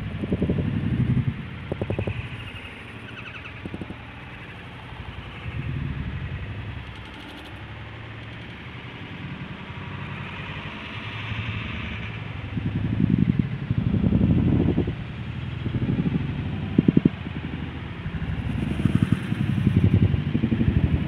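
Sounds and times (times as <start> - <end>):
road traffic engine hum: 0.0 - 21.0.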